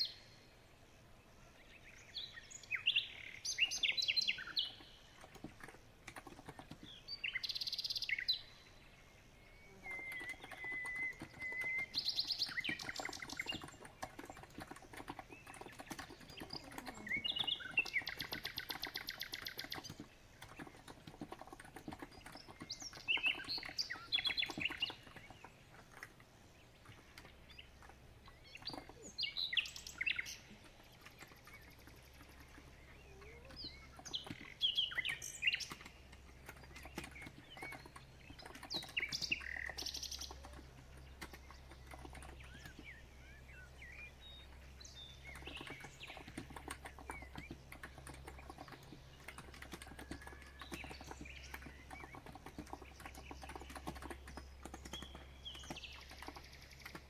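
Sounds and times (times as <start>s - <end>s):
songbirds chirping: 0.0s - 57.0s
bird trill: 2.1s - 57.0s
soft keyboard keystrokes: 3.6s - 7.0s, 9.8s - 43.0s, 44.2s - 57.0s.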